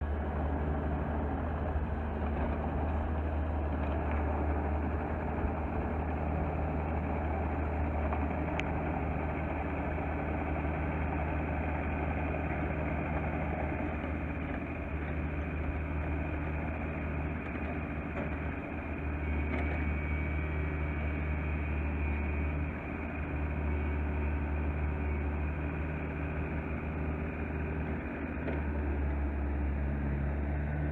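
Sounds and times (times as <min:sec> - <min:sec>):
excavator diesel engine idling: 0:00.0 - 0:30.9.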